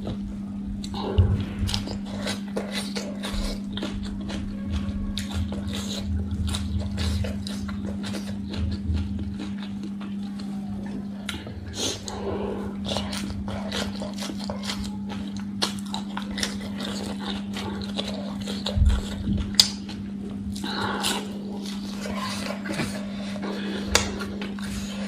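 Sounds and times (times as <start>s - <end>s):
low hum: 0.0s - 25.0s
person chewing: 0.0s - 25.0s.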